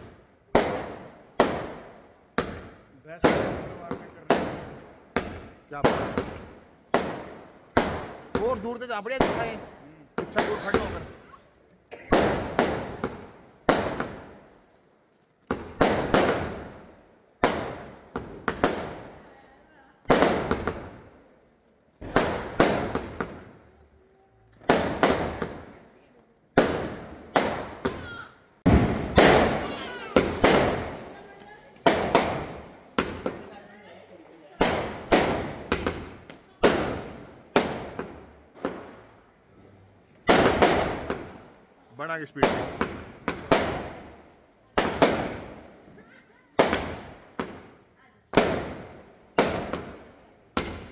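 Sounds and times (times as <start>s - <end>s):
fireworks bangs with crackle: 0.0s - 50.9s.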